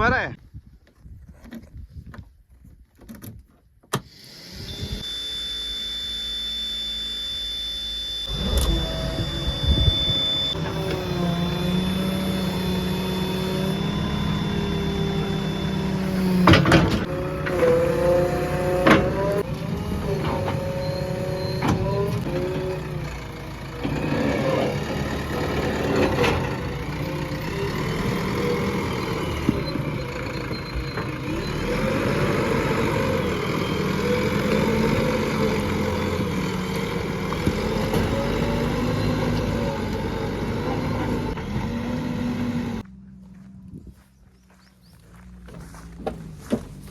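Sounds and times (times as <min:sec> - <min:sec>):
diesel engine revving: 0:04.1 - 0:46.9.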